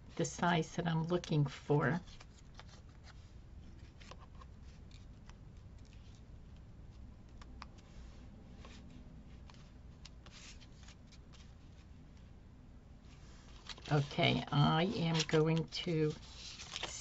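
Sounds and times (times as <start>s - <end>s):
paper and card rustling: 1.1s - 11.9s, 13.2s - 17.0s.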